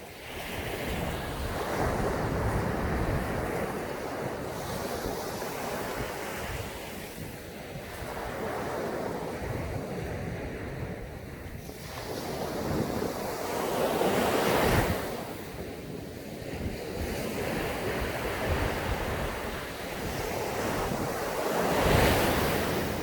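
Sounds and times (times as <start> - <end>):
sea waves breaking on beach: 0.0 - 23.0
wind noise on microphone: 0.0 - 23.0.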